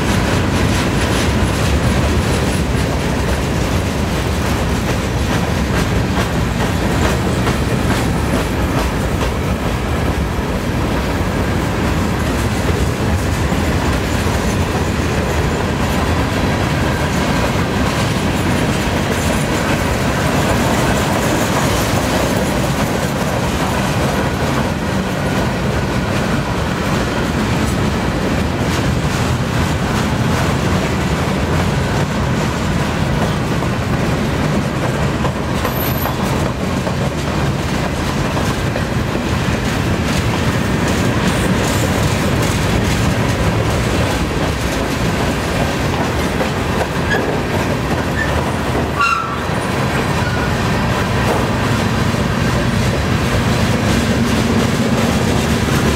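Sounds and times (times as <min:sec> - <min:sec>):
clickety-clack over rail joints: 0:00.0 - 0:55.9
train wheels rumbling on rail: 0:00.0 - 0:55.9.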